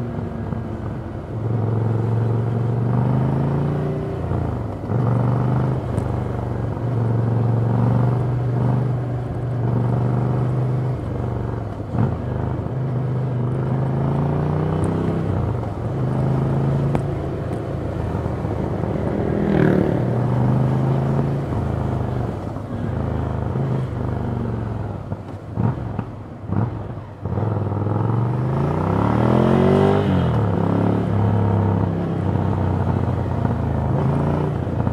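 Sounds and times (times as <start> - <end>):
motorcycle engine revving: 1.4 - 24.6, 25.6 - 34.9.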